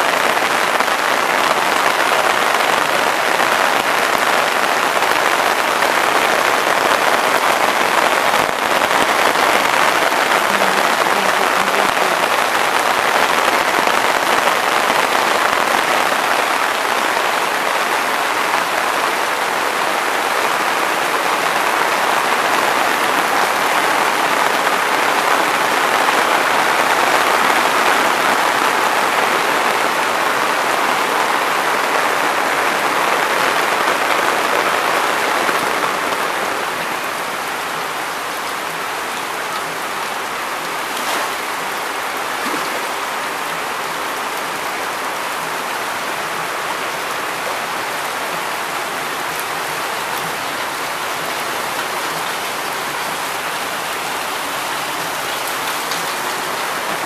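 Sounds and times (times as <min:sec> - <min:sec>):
heavy rain splashing into water: 0:00.0 - 0:57.0.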